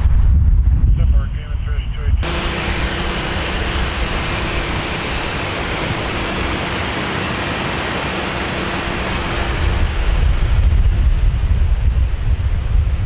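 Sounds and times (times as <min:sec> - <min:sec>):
wind buffeting microphone: 0:00.0 - 0:07.5, 0:08.1 - 0:13.0
rushing wind: 0:00.0 - 0:13.0.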